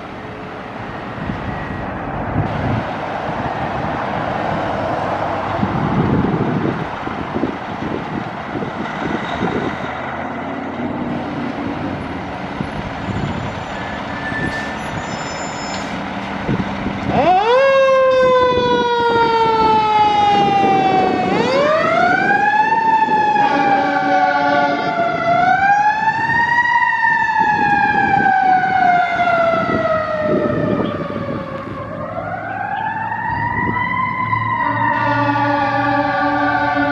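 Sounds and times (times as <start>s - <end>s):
wailing siren: 0.0s - 15.8s, 16.4s - 36.9s
fire engine running on road: 0.0s - 36.9s.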